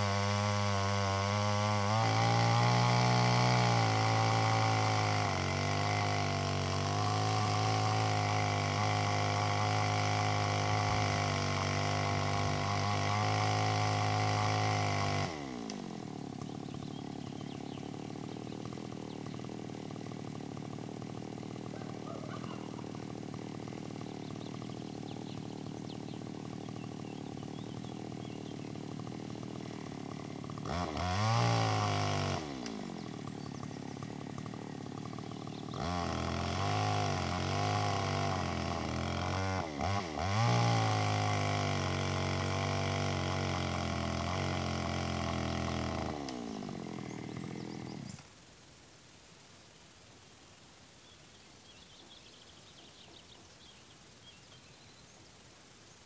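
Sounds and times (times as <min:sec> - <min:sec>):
chainsaw idling and cutting log: 0:00.0 - 0:48.4, 0:51.7 - 0:54.9.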